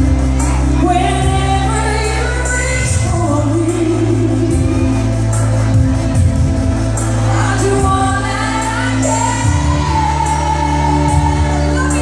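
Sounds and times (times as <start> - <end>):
backing music with bass and drums: 0.0 - 12.0
woman singing into microphone: 0.3 - 5.6, 7.2 - 12.0.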